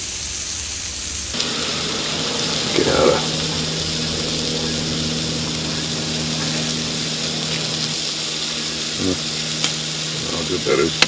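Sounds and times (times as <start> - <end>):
meat sizzling on a stove: 0.0 - 11.0
steady low hum: 0.7 - 11.0.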